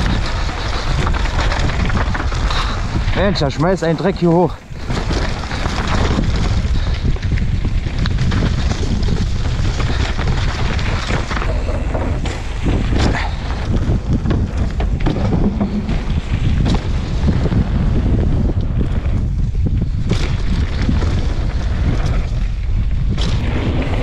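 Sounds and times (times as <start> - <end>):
bike knocking and rattling: 0.0 - 24.0
tyres rolling over loose ground: 0.0 - 24.0
wind rush on microphone: 0.0 - 24.0.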